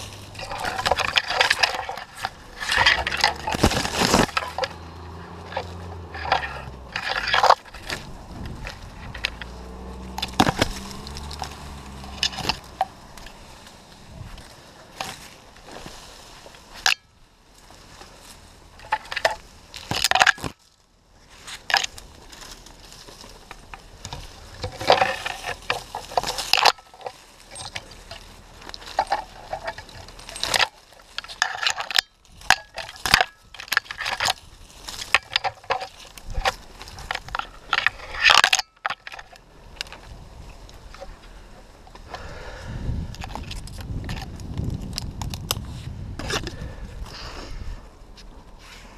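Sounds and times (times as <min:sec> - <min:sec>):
dry leaves and twigs crackling: 0:00.0 - 0:48.9.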